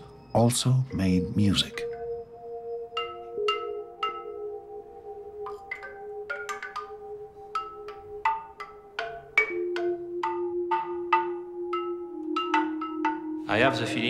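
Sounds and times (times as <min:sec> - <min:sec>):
ringing stone lithophone notes: 0:00.0 - 0:14.0.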